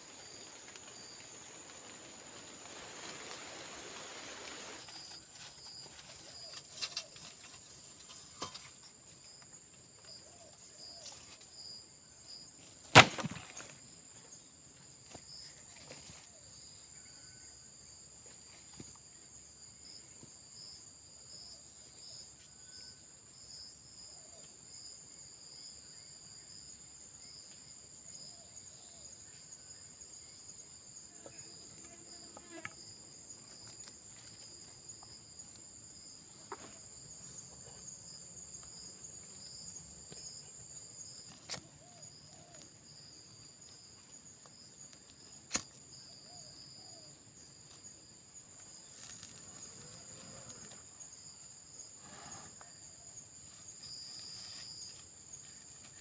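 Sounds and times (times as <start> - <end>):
forest insects chirring: 0.0 - 56.0.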